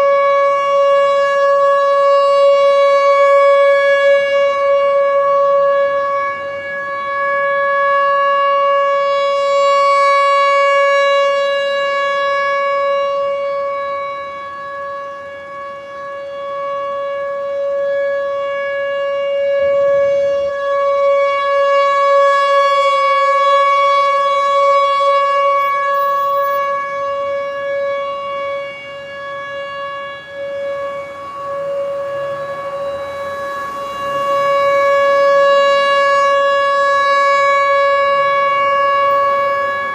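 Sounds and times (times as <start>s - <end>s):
tornado warning siren steady tone: 0.0s - 39.9s.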